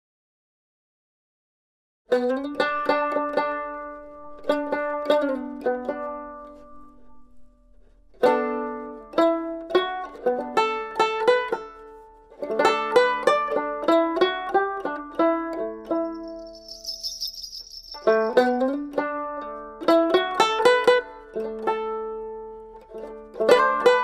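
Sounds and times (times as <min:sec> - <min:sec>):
plucked string instrument melody: 0:02.1 - 0:16.9, 0:18.0 - 0:24.0.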